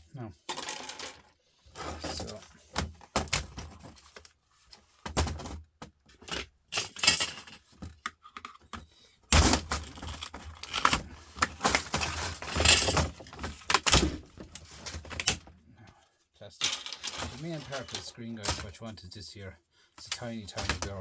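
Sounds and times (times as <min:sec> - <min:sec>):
plastic parts clicking and scraping: 0:00.4 - 0:15.6, 0:16.6 - 0:19.0, 0:20.0 - 0:21.0.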